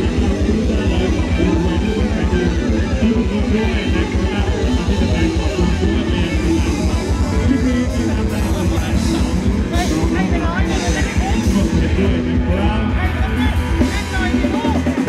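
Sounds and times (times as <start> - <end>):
live band dance music: 0.0 - 15.0.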